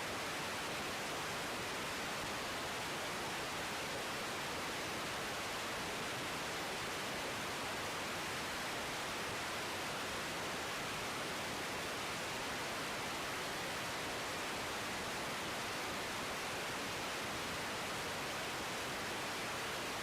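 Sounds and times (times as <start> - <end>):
static-like hiss: 0.0 - 20.0.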